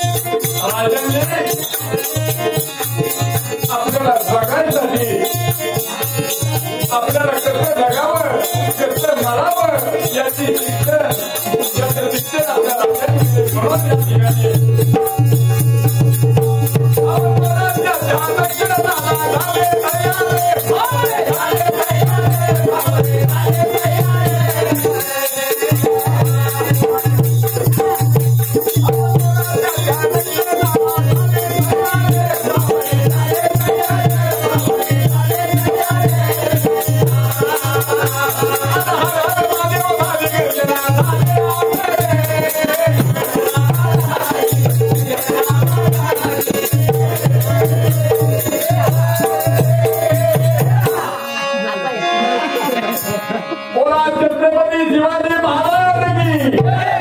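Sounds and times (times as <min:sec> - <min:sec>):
rattling percussion: 0:00.0 - 0:51.4, 0:52.6 - 0:54.4.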